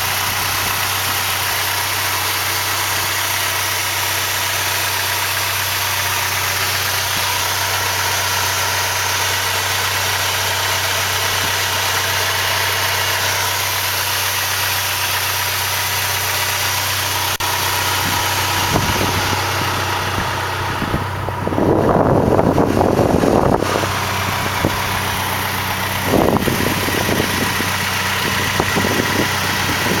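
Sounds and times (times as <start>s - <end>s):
engine idling: 0.0s - 30.0s
engine running rough: 0.0s - 30.0s.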